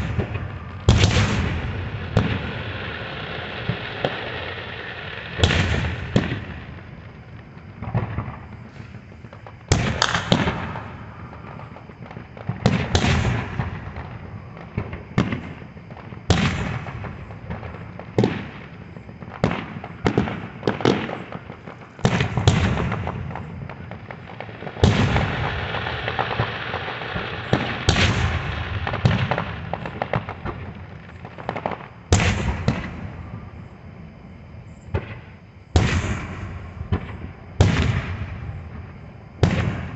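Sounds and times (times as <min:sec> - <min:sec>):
fireworks crackling: 0:00.0 - 0:33.7
fireworks bursting with bangs: 0:00.0 - 0:39.9.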